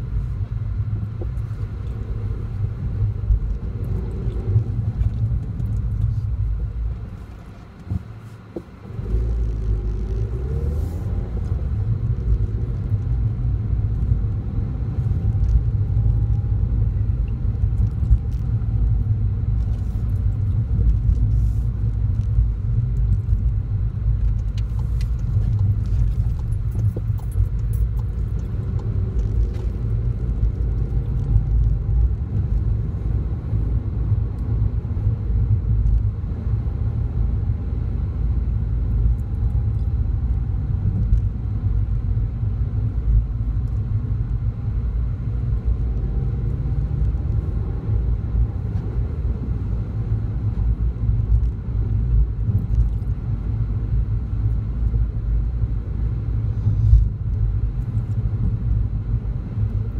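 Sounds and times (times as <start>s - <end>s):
car interior engine and tyre rumble: 0.0s - 59.9s.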